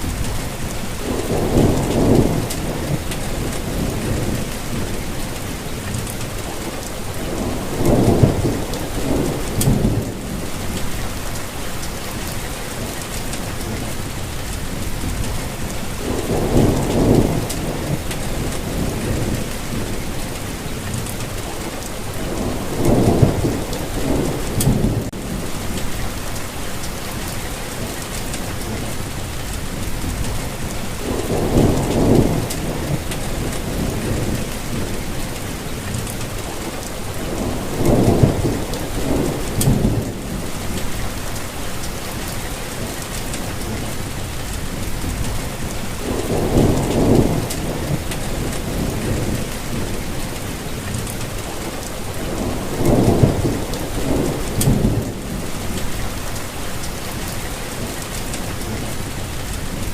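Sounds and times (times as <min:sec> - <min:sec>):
low thunder rumbles: 0:00.0 - 0:59.9
rain falling: 0:00.0 - 0:59.9.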